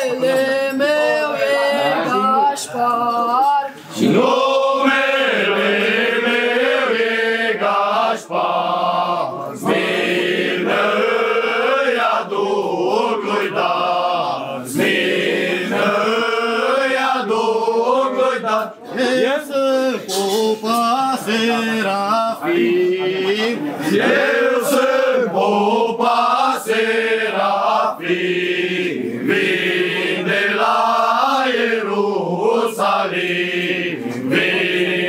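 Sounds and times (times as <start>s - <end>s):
men singing a carol together: 0.0s - 35.0s.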